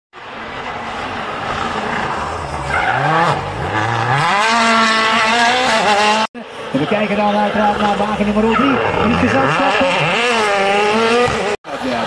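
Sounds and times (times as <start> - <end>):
rally car engine revving: 0.5 - 6.3, 7.1 - 11.6.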